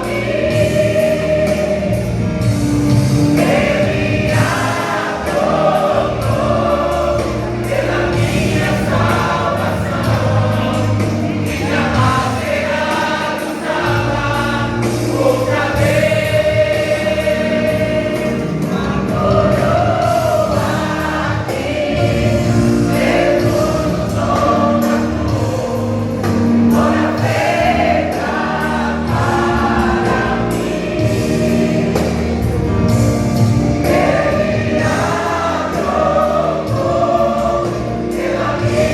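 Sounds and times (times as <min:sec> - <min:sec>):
instrumental accompaniment: 0:00.0 - 0:38.9
vocal group singing gospel: 0:00.0 - 0:38.9.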